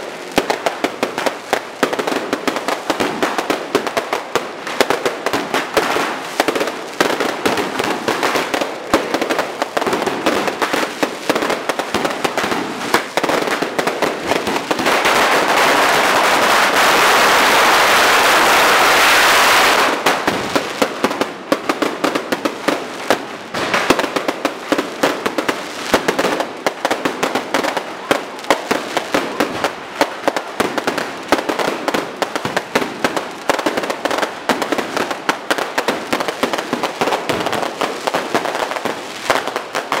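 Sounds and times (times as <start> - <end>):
firecrackers cracking: 0.0 - 40.0.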